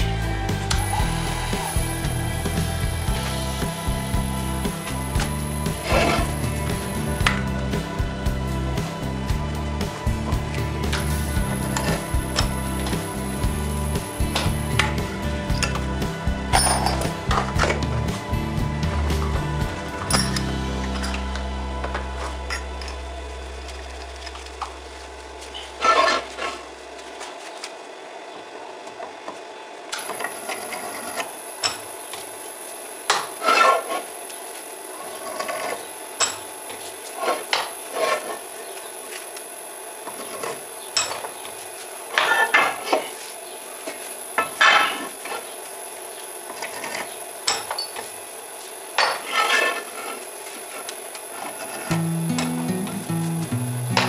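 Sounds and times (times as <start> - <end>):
motor high whine: 0.0 - 54.0
drill scraping metal: 0.6 - 26.7, 30.0 - 45.6, 46.4 - 53.8.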